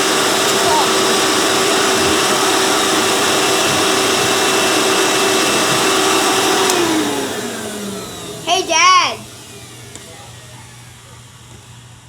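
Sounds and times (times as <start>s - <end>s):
vacuum cleaner motor humming: 0.0s - 12.0s.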